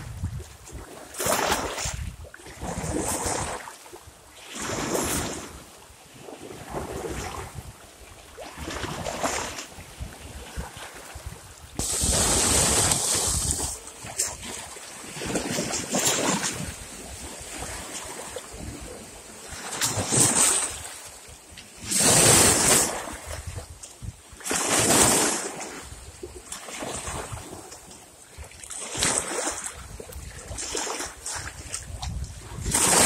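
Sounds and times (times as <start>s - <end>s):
small waves splashing against rocks: 0.0s - 33.0s.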